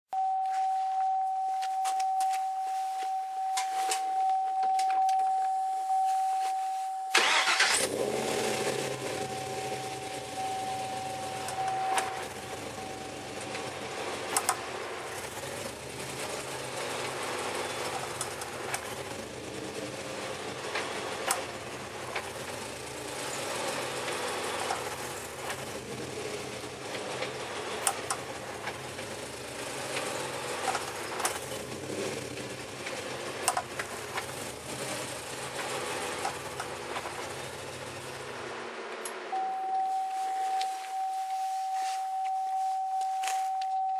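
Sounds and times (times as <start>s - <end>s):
car engine running: 7.1s - 42.8s.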